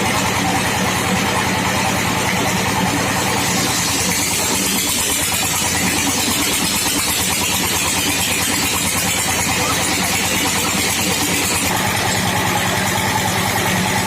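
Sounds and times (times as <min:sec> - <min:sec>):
sawmill machine running: 0:00.0 - 0:14.0.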